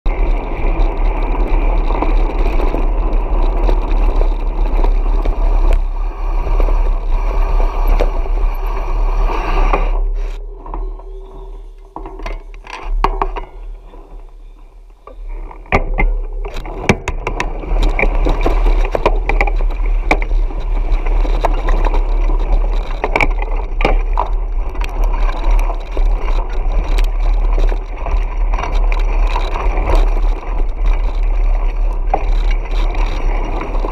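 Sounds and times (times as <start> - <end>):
bike rattling and clicking: 0.0 - 33.9
low wind rumble: 0.0 - 33.9
bike tyres crunching on gravel: 0.1 - 33.9.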